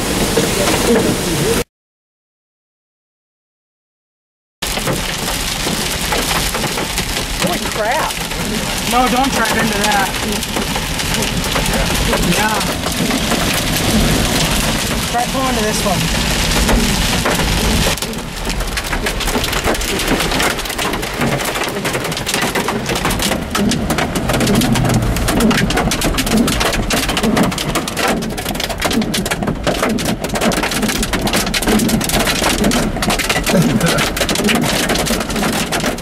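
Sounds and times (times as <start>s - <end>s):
hiss of heavy rain: 0.0s - 1.6s, 4.6s - 36.0s
hail hitting vehicle roof: 4.6s - 36.0s.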